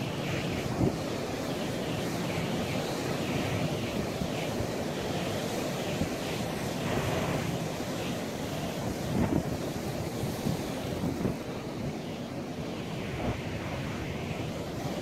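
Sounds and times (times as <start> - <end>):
wind gusting over microphone: 0.0 - 15.0.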